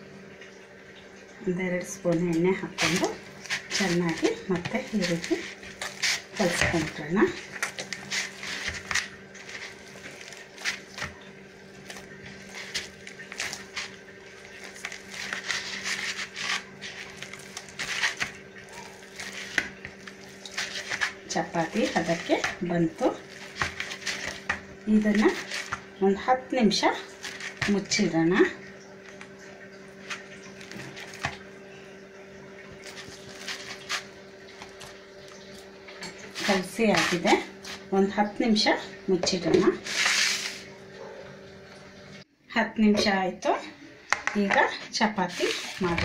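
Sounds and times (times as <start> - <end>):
steady low hum: 0.0 - 46.0
dough squishing in a bowl: 1.4 - 42.2, 43.0 - 46.0.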